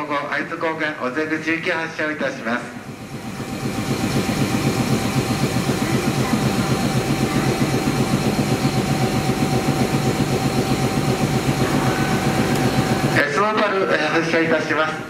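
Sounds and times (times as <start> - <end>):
faint steady whine: 0.0 - 15.0
train machinery low chugging: 0.0 - 15.0.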